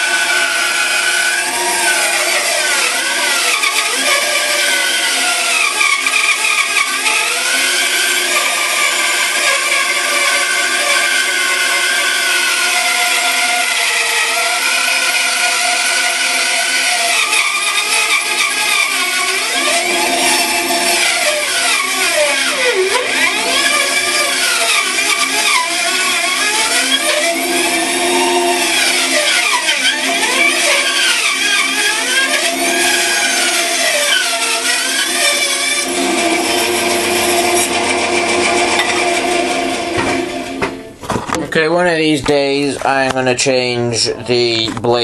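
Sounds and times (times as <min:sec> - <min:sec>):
bandsaw cutting wood: 0:00.0 - 0:41.0.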